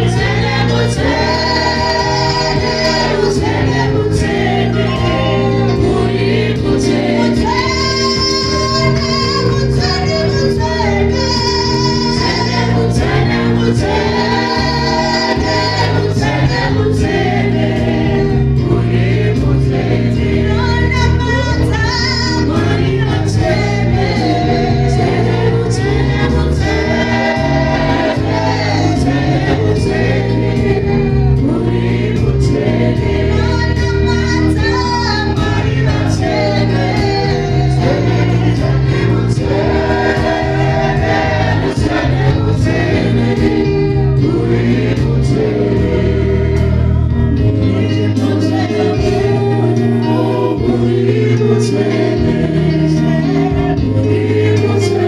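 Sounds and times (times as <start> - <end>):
amplified backing music: 0.0 - 55.0
group singing gospel song: 0.0 - 55.0.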